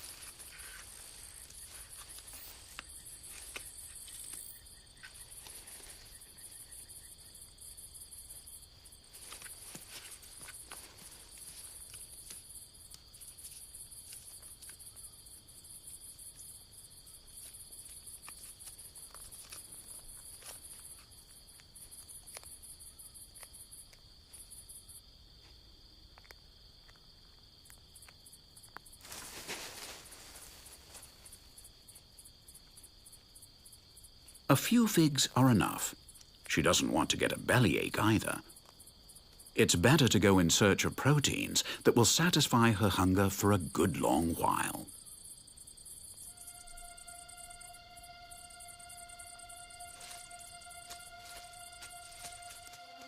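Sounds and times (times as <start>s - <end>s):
crickets chirping: 0.0s - 53.0s
steady insect drone: 0.0s - 53.0s.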